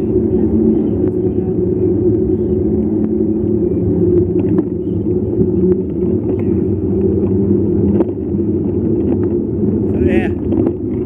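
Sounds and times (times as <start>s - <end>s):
bike rolling on asphalt: 0.0s - 11.0s.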